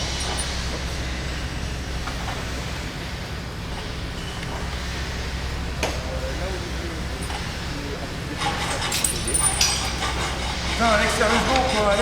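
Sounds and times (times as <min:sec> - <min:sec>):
low machinery drone: 0:00.0 - 0:12.0.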